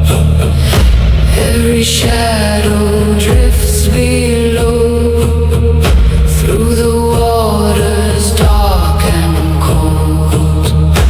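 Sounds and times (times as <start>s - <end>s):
chant-like voices: 0.0s - 11.0s.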